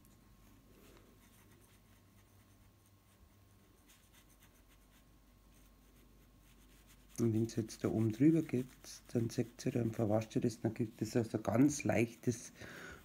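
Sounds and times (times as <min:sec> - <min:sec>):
paintbrush scratching on wood: 0:00.8 - 0:12.6.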